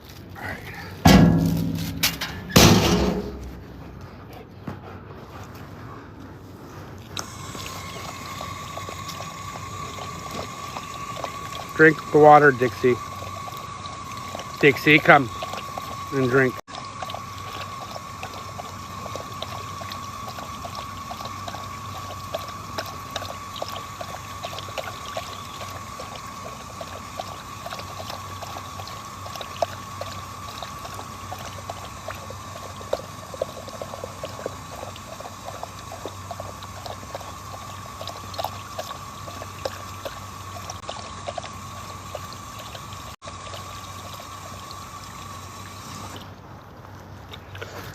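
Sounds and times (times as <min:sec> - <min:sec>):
water pouring and splashing: 0:07.0 - 0:47.9.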